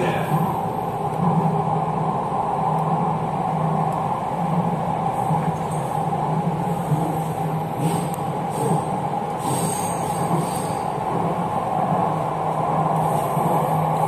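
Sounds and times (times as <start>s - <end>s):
electric train hum: 0.0s - 14.0s.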